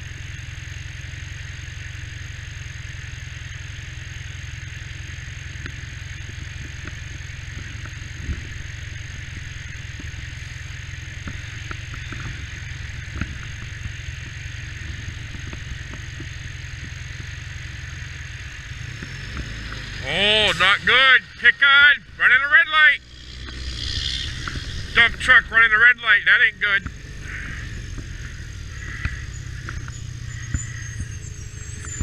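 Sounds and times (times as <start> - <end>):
motorcycle engine idling: 0.0 - 32.0
high-pitched whine: 6.1 - 32.0.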